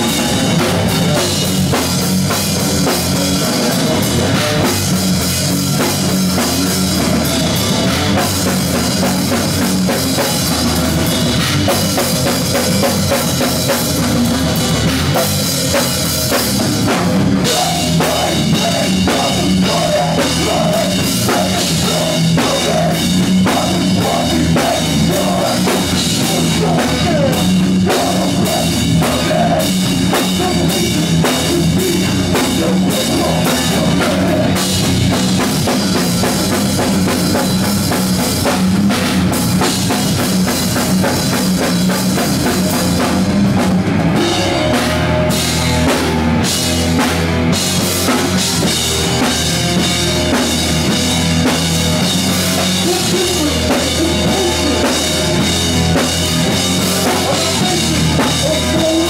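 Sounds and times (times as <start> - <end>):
bass drum: 0.0 - 59.0
live rock band: 0.0 - 59.0.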